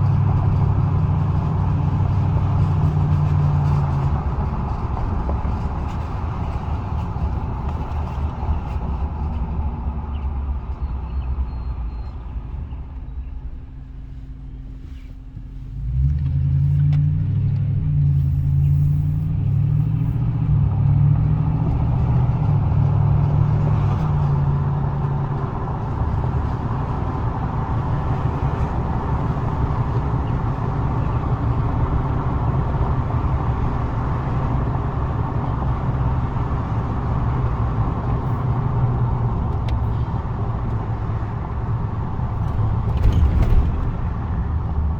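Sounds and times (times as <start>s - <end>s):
pickup truck engine running: 0.0s - 44.9s.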